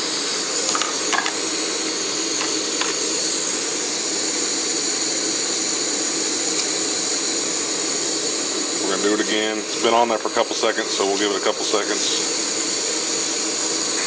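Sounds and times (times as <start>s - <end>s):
gas stove hissing: 0.0s - 14.0s.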